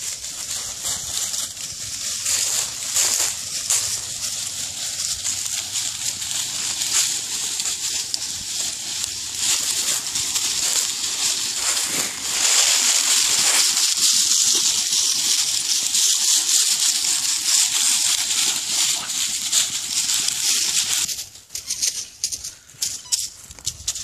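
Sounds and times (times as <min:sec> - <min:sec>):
dry leaves rustling and crunching: 0:00.0 - 0:24.0.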